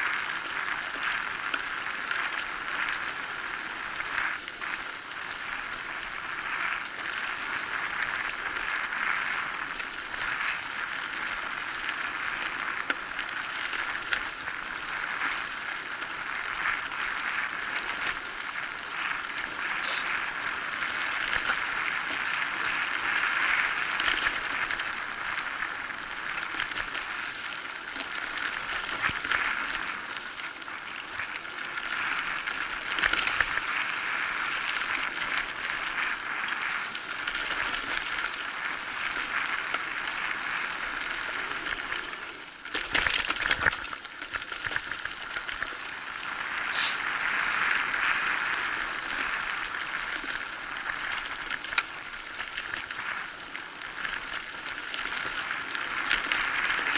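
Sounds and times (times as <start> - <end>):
bike rattles and clicks: 0.0 - 56.9
bike riding noise on dirt trail: 0.0 - 56.9.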